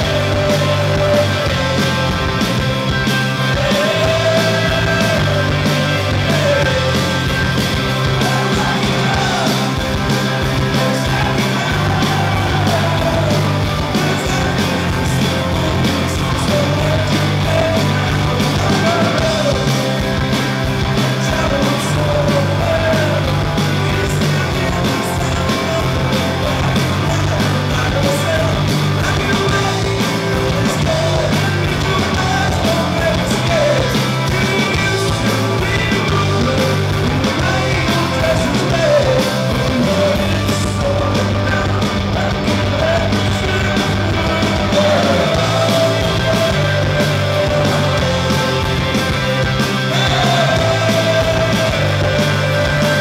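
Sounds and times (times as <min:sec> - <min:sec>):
person singing lead vocal: 0:00.0 - 0:53.0
punk rock band playing live: 0:00.0 - 0:53.0.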